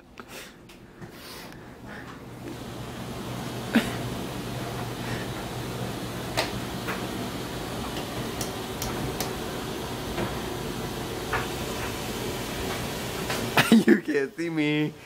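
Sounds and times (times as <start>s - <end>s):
steady background hiss: 2.4s - 15.0s.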